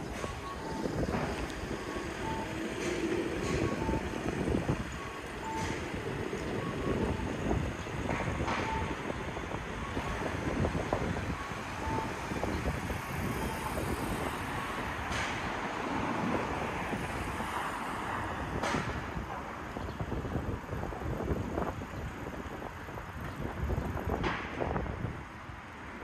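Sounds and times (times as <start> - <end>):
wind on microphone: 0.0 - 25.7
road traffic: 0.0 - 26.0
vehicles passing: 0.0 - 26.0.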